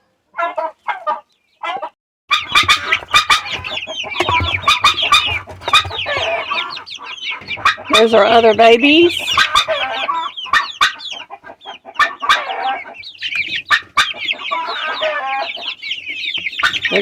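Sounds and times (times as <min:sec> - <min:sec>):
chicks chirping and peeping: 0:00.1 - 0:17.0.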